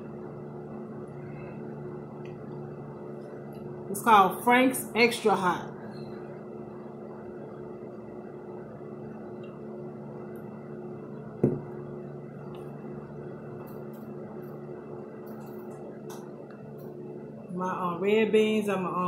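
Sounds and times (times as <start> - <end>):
background hum with tones: 0.0 - 19.0.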